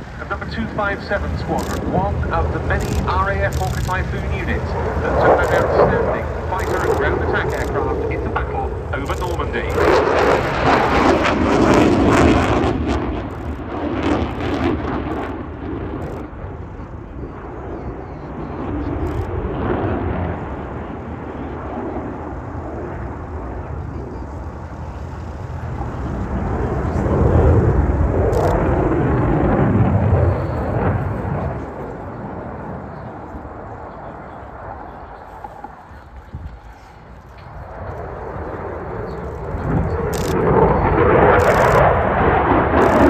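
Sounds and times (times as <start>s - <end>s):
jet flying past rumbling: 0.0s - 43.0s.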